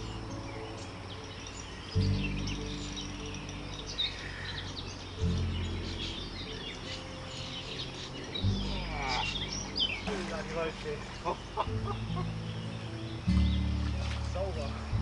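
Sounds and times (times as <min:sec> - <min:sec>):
low sustained music chords: 0:00.0 - 0:15.0
small birds chirping: 0:00.0 - 0:15.0.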